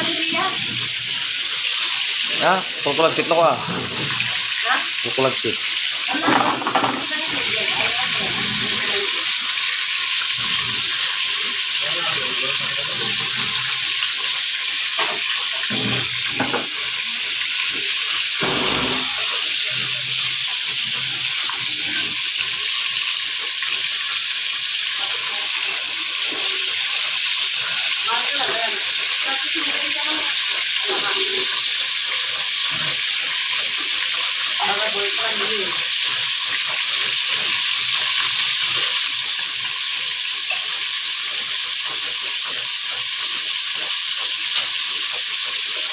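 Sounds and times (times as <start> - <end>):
food sizzling in a pan: 0.0 - 45.9.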